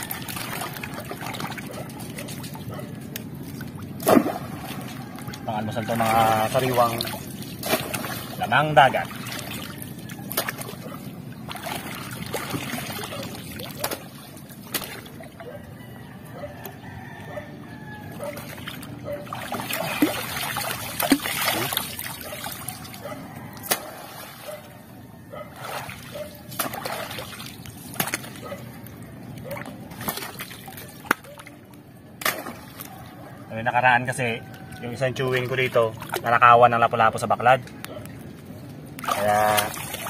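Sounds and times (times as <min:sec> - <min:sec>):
seawater splashing: 0:00.0 - 0:15.7, 0:18.1 - 0:33.4, 0:34.7 - 0:36.4, 0:39.0 - 0:40.0.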